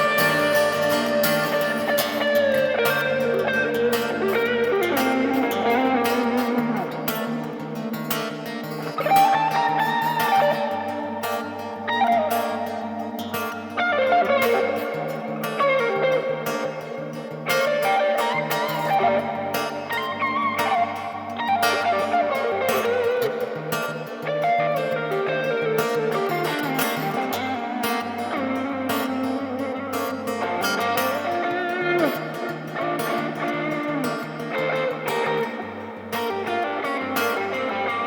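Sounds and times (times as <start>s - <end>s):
guitar-led instrumental band music: 0.0s - 38.0s.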